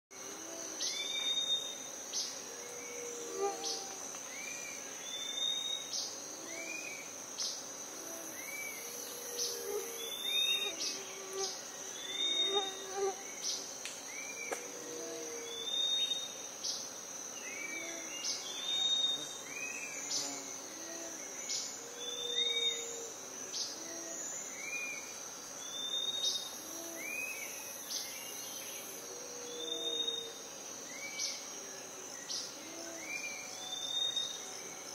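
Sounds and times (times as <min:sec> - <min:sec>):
high-pitched insect drone: 0:00.1 - 0:34.9.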